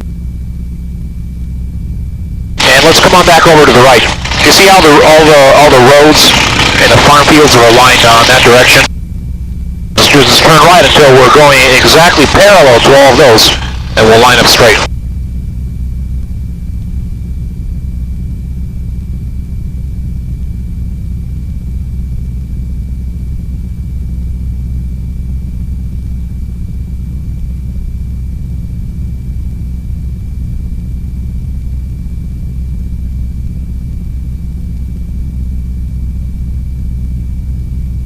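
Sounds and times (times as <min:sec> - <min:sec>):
radial engine droning: 0:00.0 - 0:38.0
thin high whine: 0:00.0 - 0:38.0.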